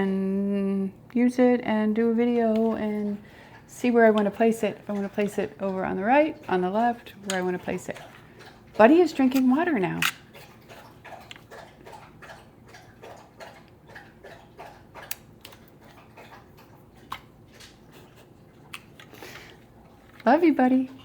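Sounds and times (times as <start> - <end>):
dog lapping water: 2.4 - 21.0.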